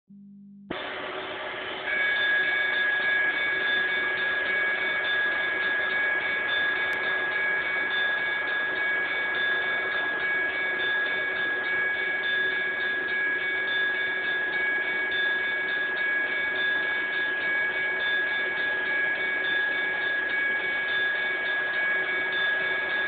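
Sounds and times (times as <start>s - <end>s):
model train humming and whining: 0.7s - 23.0s.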